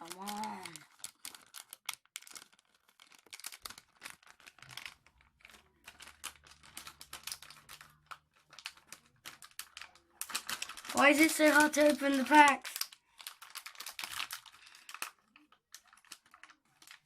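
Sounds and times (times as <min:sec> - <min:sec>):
plastic pack crinkling: 0:00.0 - 0:17.0.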